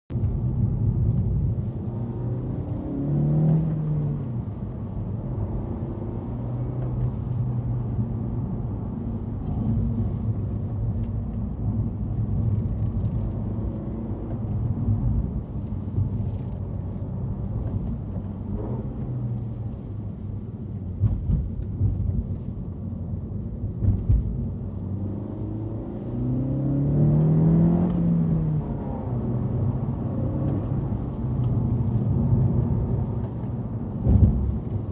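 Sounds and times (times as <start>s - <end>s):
car engine accelerating and shifting: 0.1s - 34.9s.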